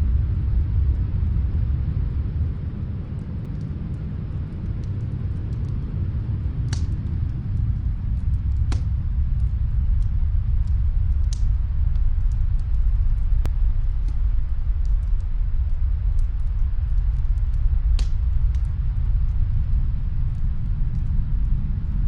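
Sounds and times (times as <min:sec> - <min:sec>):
snowstorm wind rumble: 0:00.0 - 0:22.0
wood fire crackling: 0:00.0 - 0:22.0.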